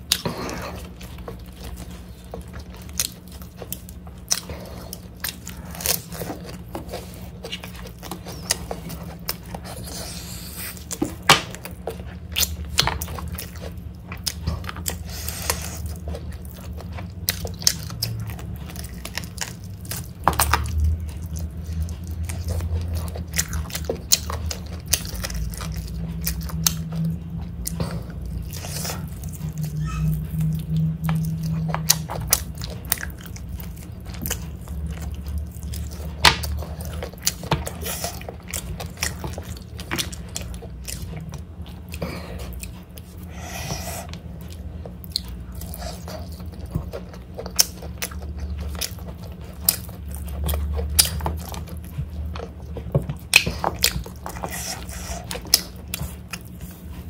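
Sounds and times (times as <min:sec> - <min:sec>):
low hum: 0:00.0 - 0:57.0
person chewing food: 0:00.0 - 0:57.0.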